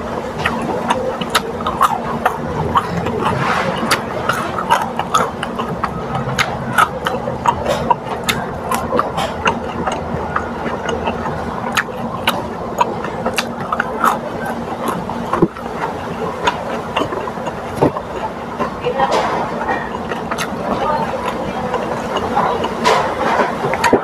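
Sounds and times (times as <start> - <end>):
chewing and crunching food: 0.0 - 24.0.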